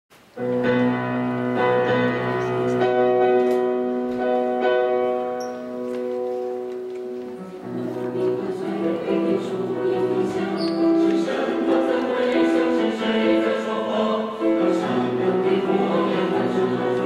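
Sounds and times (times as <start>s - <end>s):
grand piano chords: 0.4s - 17.0s.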